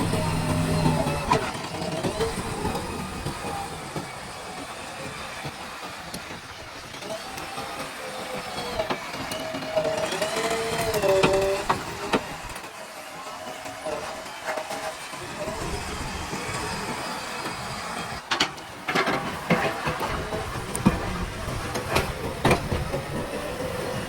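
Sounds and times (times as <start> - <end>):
backhoe loader whining: 0.0 - 24.0.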